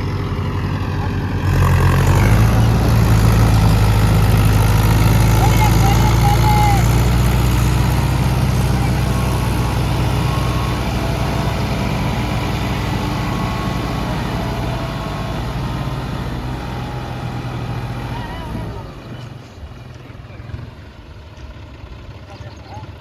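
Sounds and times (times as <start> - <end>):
tractor diesel engine droning: 0.0 - 23.0.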